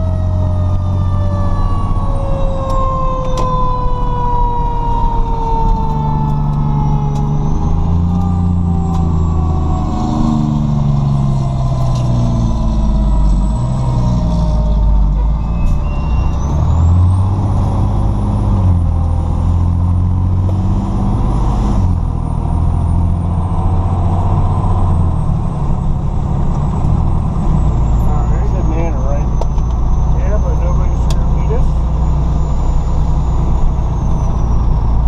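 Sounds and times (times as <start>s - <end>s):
diesel engine under load: 0.0s - 35.0s
mechanical siren rising and falling: 0.0s - 35.0s.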